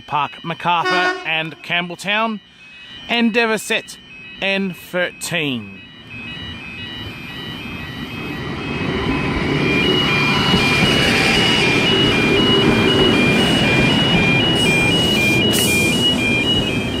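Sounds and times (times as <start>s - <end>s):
two-tone electronic warning beeps: 0.0s - 17.0s.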